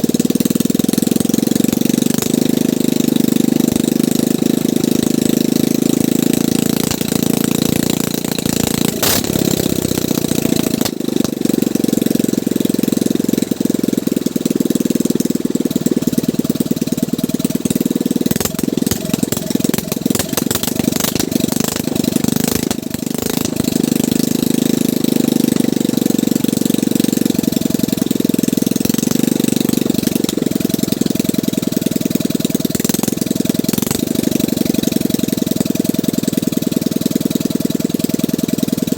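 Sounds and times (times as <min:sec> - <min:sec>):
boat engine chugging: 0:00.0 - 0:38.9.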